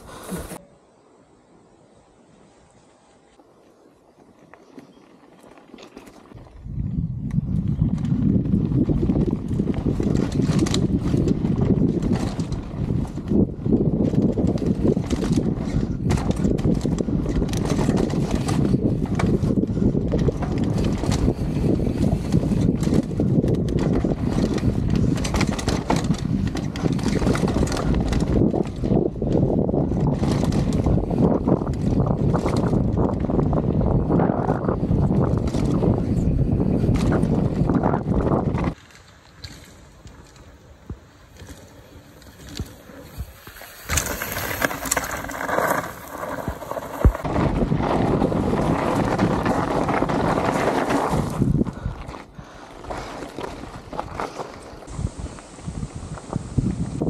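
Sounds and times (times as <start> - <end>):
bike clicking and rattling: 4.2 - 57.0
wind buffeting microphone: 6.2 - 38.8, 39.5 - 57.0
tyres rushing on dirt: 7.9 - 57.0.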